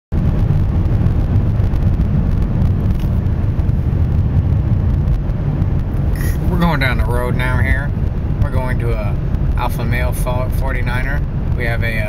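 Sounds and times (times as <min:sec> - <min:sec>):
car interior road and engine rumble: 0:00.1 - 0:12.0.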